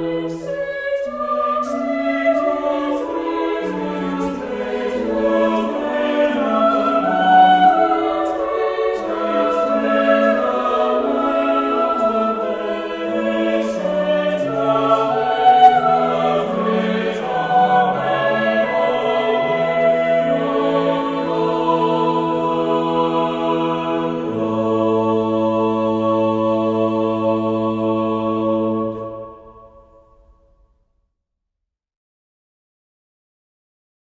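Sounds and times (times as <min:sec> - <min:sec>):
choir singing: 0:00.0 - 0:30.3.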